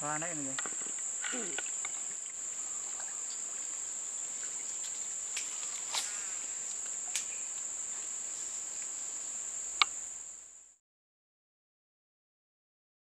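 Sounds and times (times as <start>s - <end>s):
insects droning: 0.0s - 10.8s.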